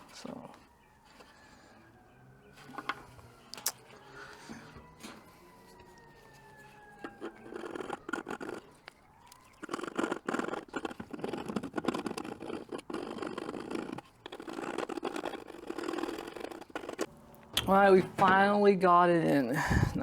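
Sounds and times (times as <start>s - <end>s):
hard plastic scraping and crackling: 2.6s - 18.7s.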